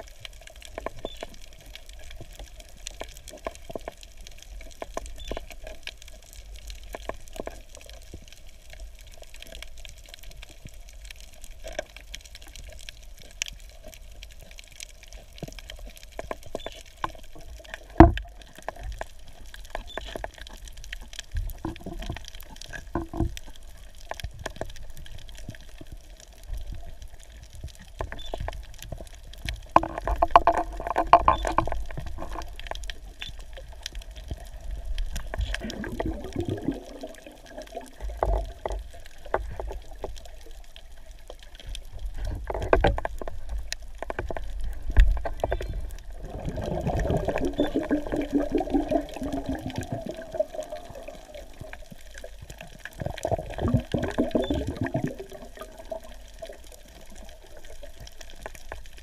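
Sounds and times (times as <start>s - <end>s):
underwater bubbling and gurgling: 0.0s - 59.0s
underwater rumble of moving water: 0.0s - 59.0s.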